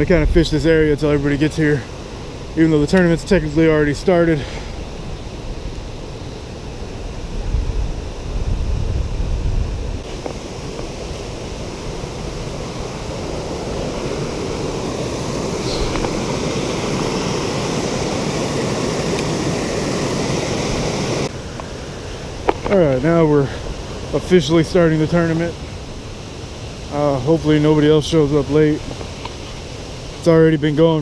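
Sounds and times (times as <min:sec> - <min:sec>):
water rushing over weir: 0:00.0 - 0:31.0
wind buffeting microphone: 0:00.0 - 0:31.0.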